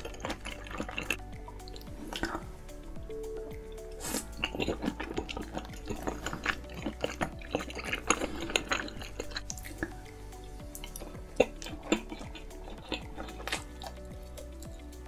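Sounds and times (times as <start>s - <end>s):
wet chewing mouth clicks: 0.0s - 2.5s, 3.7s - 10.1s, 10.7s - 15.0s
faint background music: 0.0s - 15.0s.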